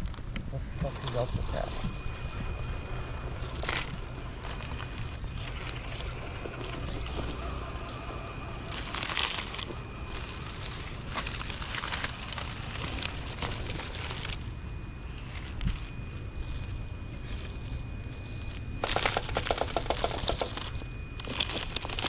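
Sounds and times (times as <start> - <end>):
steady low rumble: 0.0 - 18.8
crunching crackling noise: 0.0 - 22.0.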